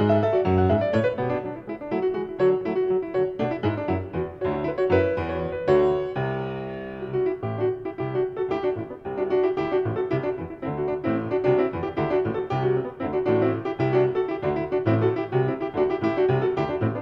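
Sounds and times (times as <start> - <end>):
grand piano chords: 0.0 - 17.0.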